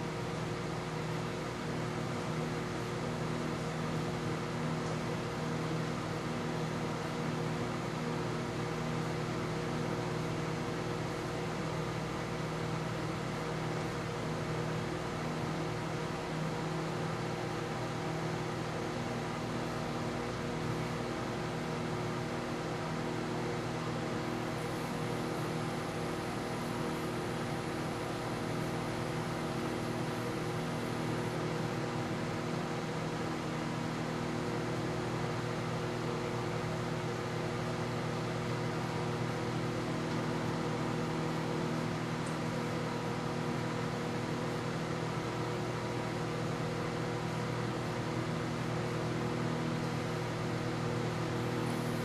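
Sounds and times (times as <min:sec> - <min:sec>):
microwave oven humming: 0:00.0 - 0:52.0.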